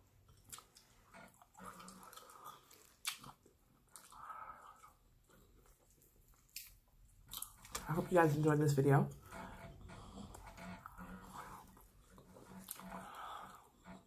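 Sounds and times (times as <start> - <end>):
person chewing: 0.1 - 7.8, 9.8 - 14.0.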